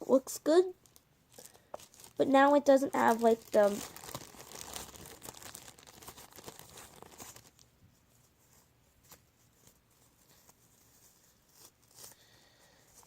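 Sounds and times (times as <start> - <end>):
crafting materials crinkling: 0.8 - 13.0.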